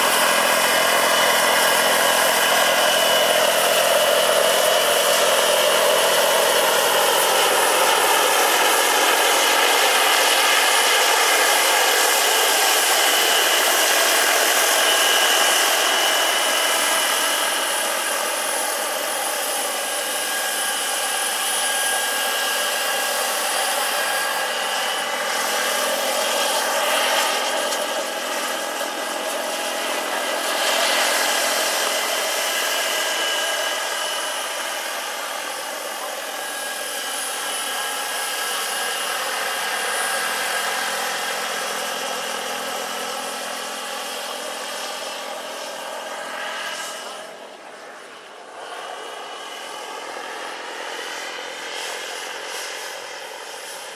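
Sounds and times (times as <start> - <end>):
helicopter rotor noise: 0.0 - 53.9
helicopter turbine whine: 0.0 - 53.9.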